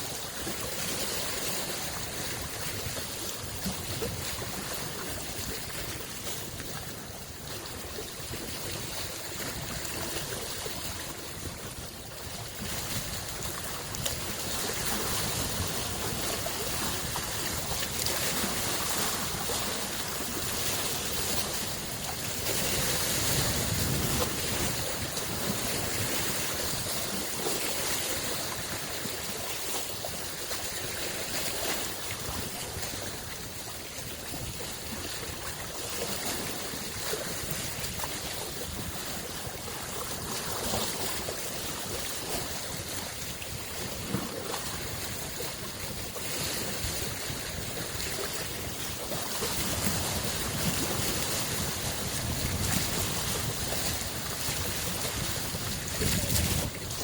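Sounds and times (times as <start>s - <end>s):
lake waves washing against shore: 0.0s - 57.0s.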